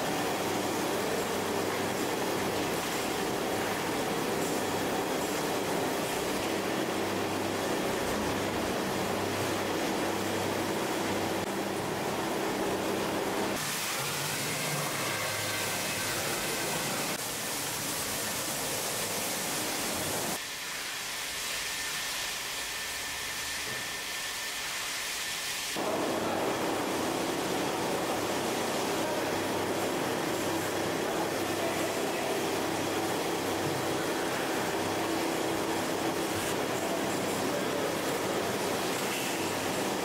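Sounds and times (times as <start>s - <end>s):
machinery hum and hiss: 0.0s - 40.0s.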